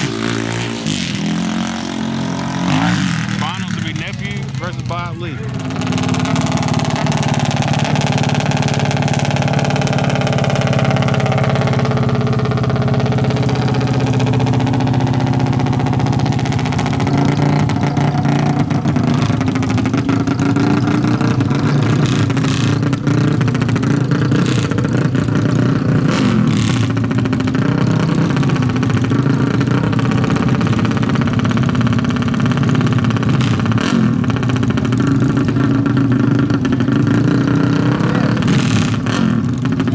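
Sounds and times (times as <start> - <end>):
atv engine fast idle: 5.5 - 39.9.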